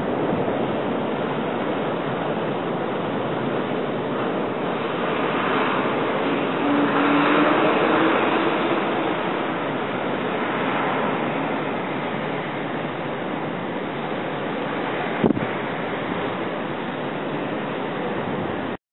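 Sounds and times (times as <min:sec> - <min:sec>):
blizzard wind buffeting microphone: 0:00.0 - 0:18.8.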